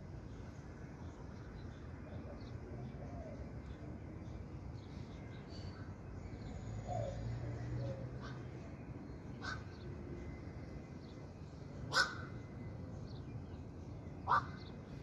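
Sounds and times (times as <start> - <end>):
faint bird chirps: 0.2 - 15.0.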